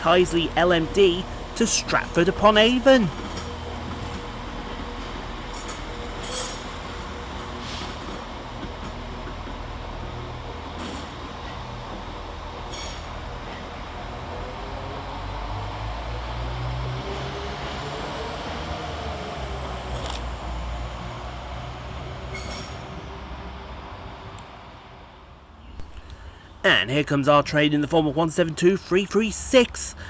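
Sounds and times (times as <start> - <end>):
diesel train rumbling past: 0.0 - 30.0
train whine: 0.0 - 30.0.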